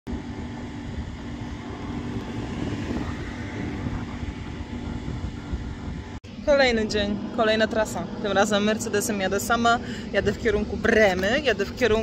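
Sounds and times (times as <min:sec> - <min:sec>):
truck engine drone: 0:00.1 - 0:12.0.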